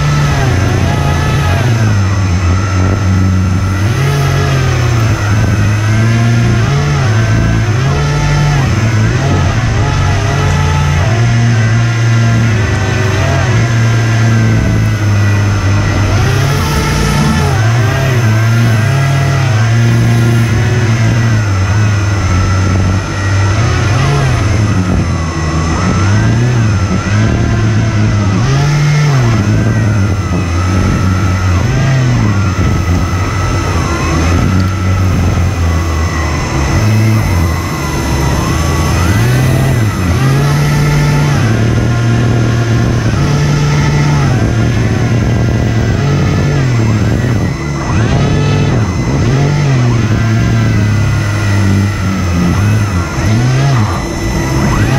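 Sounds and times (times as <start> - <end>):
hovercraft fans whining: 0.0 - 54.9.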